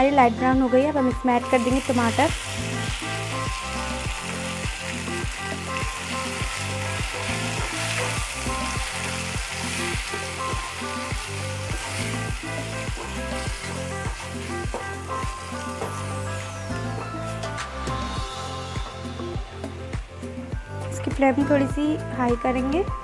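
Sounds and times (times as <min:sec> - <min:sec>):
background music with beat: 0:00.0 - 0:23.0
vegetables sizzling in hot oil: 0:01.4 - 0:20.6.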